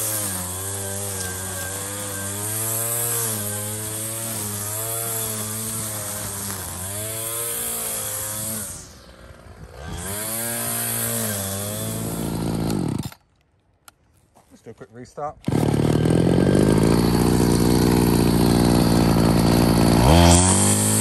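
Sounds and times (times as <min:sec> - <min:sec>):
string trimmer engine revving: 0:00.0 - 0:13.2, 0:15.4 - 0:21.0.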